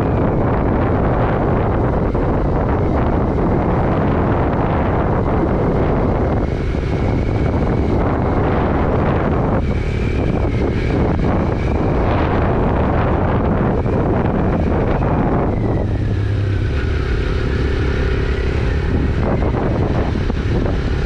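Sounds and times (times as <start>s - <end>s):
motorcycle engine: 0.0s - 21.0s
road noise: 0.0s - 21.0s
wind buffeting microphone: 0.0s - 21.0s.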